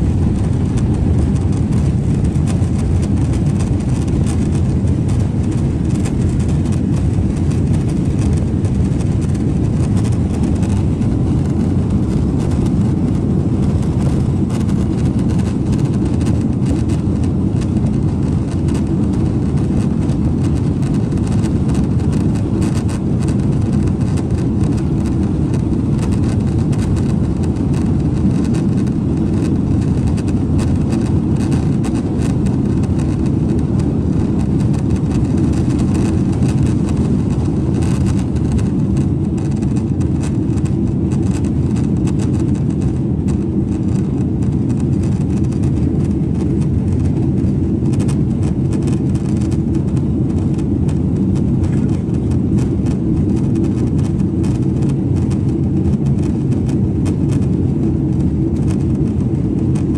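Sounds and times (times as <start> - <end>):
wheels rolling over taxiway: 0.0 - 40.7, 41.3 - 48.5, 53.2 - 55.3
aircraft engines low rumble: 0.0 - 59.9.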